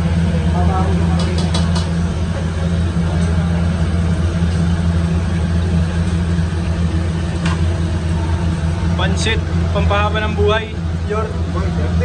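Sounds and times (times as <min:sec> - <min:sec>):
ship machinery humming: 0:00.0 - 0:12.0.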